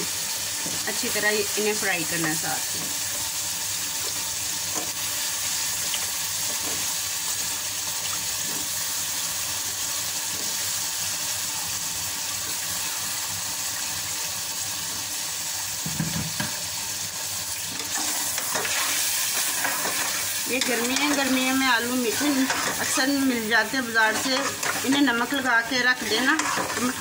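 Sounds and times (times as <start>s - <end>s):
potatoes sizzling in hot fat: 0.0s - 27.0s.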